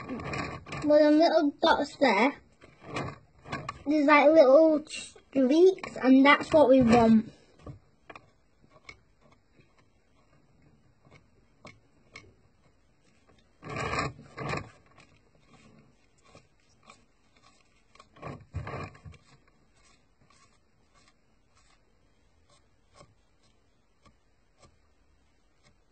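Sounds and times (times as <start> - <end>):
paintbrush tapping and rubbing: 2.4 - 25.9.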